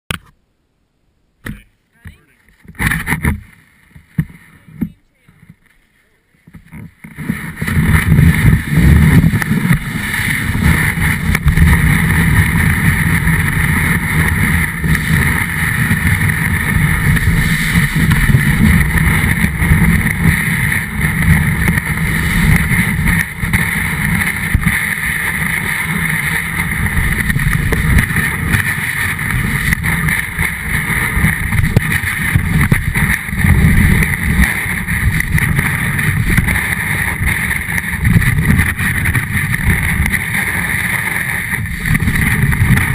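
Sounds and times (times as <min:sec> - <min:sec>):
snowboard scraping over snow: 0:01.5 - 0:42.9
wind buffeting microphone: 0:06.4 - 0:42.9.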